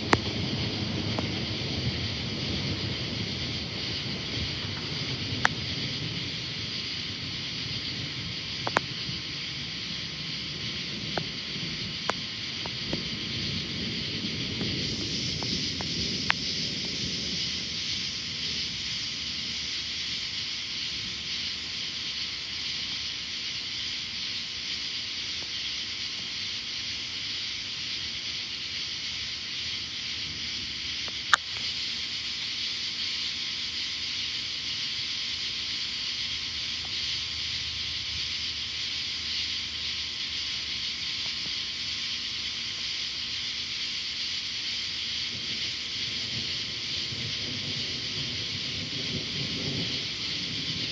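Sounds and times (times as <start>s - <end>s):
high-pitched pulsing insect call: 0.0s - 50.9s
night insects chorus: 0.0s - 50.9s.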